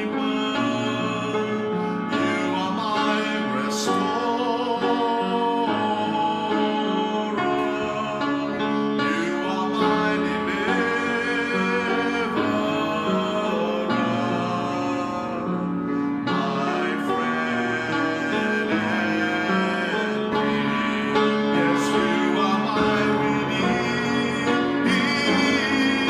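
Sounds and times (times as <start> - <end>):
slow worship music with singing: 0.0 - 26.0.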